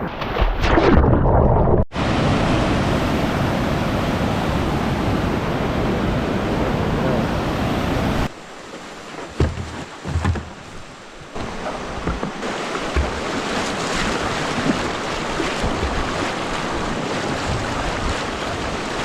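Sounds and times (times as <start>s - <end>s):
rushing whitewater: 2.0s - 19.0s.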